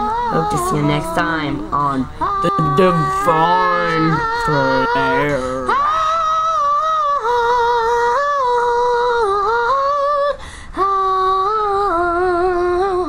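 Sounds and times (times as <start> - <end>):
high-pitched voice singing: 0.0 - 13.0.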